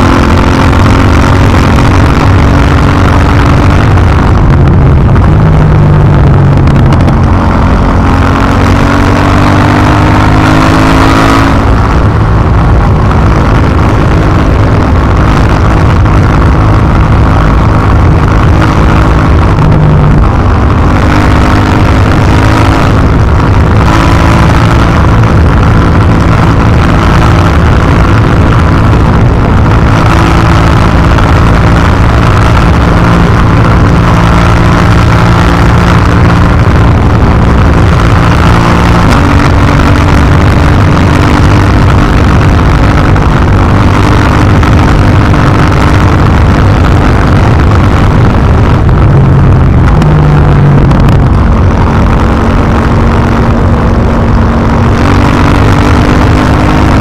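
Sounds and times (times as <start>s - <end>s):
motorcycle engine at road speed: 0.0s - 57.0s.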